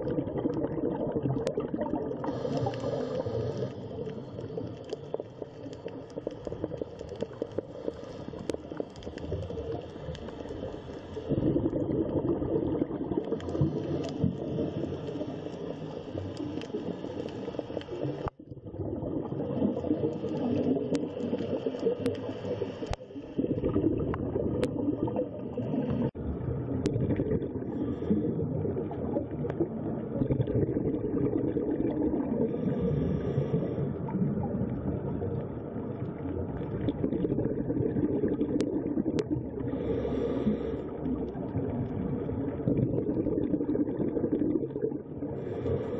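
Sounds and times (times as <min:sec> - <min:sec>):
muffled underwater rumble: 0:00.0 - 0:45.9
water bubbling and gurgling: 0:00.0 - 0:45.9.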